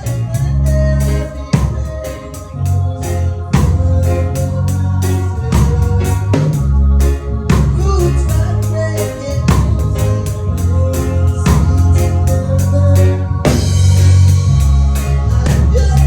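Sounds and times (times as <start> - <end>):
drum kit beat: 0.0 - 16.0
heavy bass line: 0.0 - 16.0
organ-like keyboard chords: 0.0 - 16.0.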